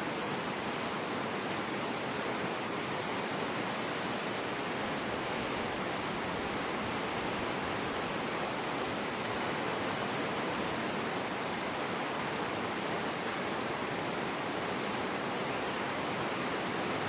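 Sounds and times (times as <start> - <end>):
rapids rushing over boulders: 0.0 - 17.0.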